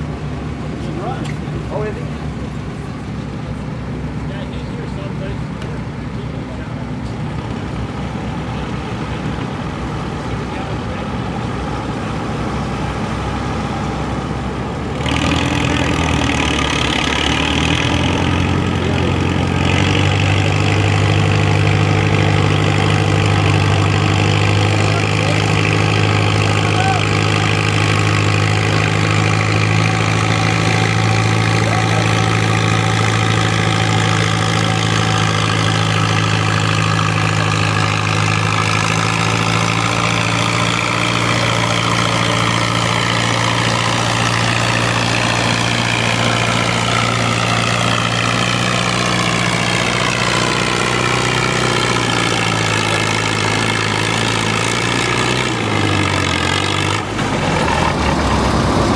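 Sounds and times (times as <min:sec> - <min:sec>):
tractor engine running hard: 0:00.0 - 0:58.9.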